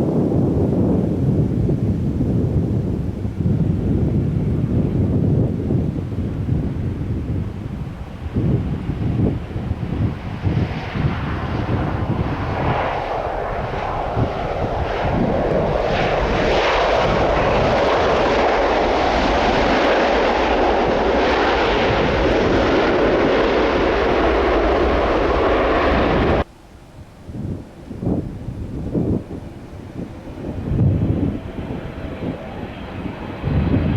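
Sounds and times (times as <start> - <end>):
jet engine roar: 0.0 - 26.6, 27.2 - 33.9
wind gusting on microphone: 0.0 - 33.9.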